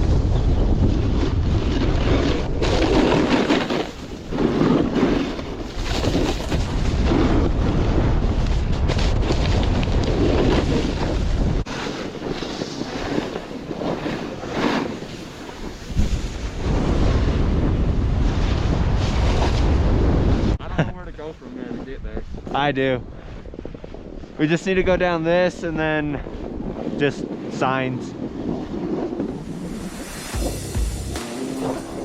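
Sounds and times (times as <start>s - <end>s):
wind buffeting microphone: 0.0s - 30.8s.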